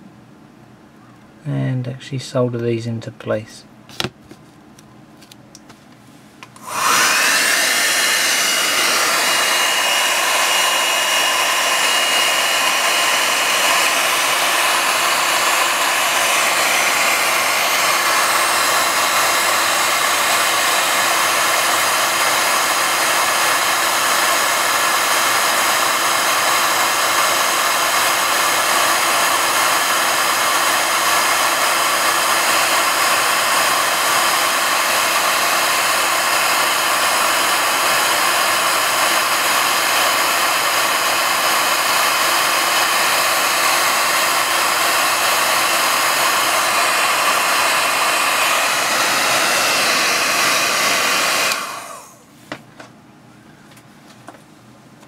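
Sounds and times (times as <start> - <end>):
heat gun blowing hot air: 6.5 - 52.3.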